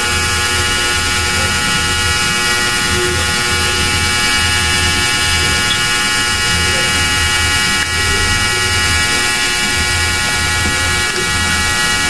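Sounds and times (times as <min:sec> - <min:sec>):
constant hiss: 0:00.0 - 0:12.0
electrical buzz: 0:00.0 - 0:12.0.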